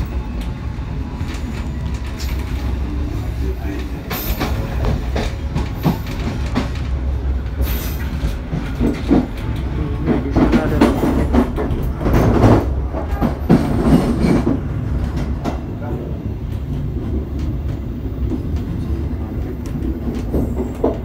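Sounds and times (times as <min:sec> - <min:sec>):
train rumbling: 0:00.0 - 0:21.0
wheels clacking over rail joints: 0:01.2 - 0:21.0.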